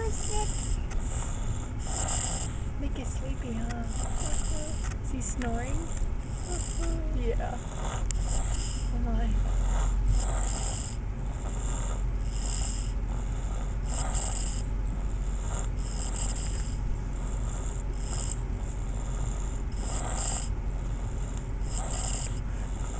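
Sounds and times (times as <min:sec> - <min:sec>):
person snoring: 0:00.0 - 0:02.6, 0:03.9 - 0:04.8, 0:06.4 - 0:22.9
steady low hum: 0:00.0 - 0:22.9.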